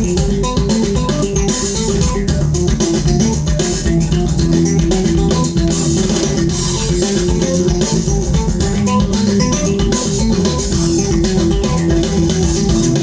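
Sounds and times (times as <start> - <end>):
plucked guitar and bass music: 0.0 - 13.0.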